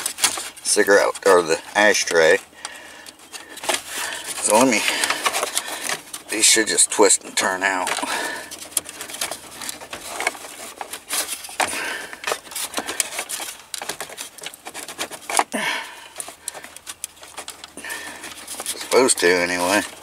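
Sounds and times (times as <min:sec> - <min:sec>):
metal and plastic clicks and rattles: 0:00.0 - 0:20.0.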